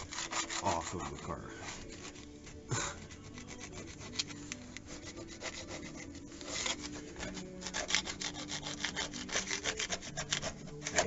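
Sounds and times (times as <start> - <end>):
plastic scraper rasping: 0.0 - 11.0.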